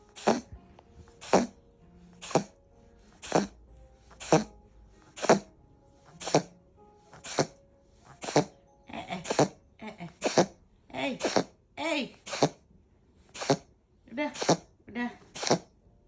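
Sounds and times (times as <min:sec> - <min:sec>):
cat sneezing coughs: 0:00.0 - 0:01.6, 0:02.2 - 0:12.6, 0:13.2 - 0:15.8.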